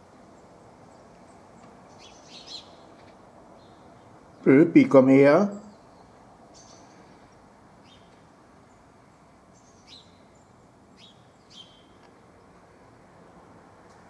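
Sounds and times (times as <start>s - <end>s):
low outdoor background hiss: 0.0s - 14.0s
faint bird chirps: 0.3s - 4.5s, 5.5s - 12.6s.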